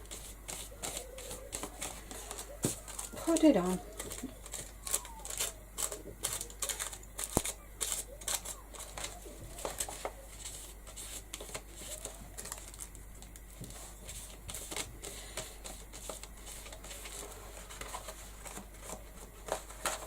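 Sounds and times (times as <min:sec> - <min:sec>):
paper rustles: 0:00.0 - 0:20.0.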